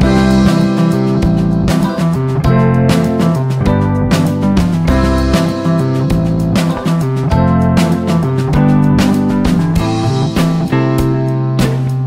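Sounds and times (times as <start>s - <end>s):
strummed guitar music: 0.0s - 12.0s.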